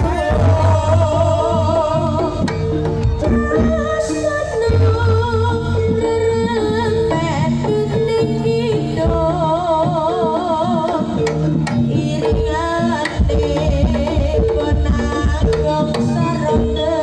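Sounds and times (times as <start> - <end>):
hand drums: 0.0 - 17.0
tuned percussion notes: 0.0 - 17.0.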